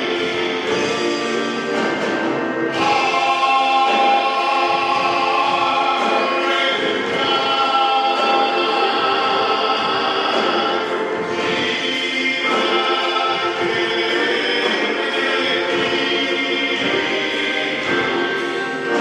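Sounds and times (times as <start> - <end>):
male vocal group singing: 0.0 - 1.5, 2.7 - 19.0
organ accompaniment: 0.0 - 19.0.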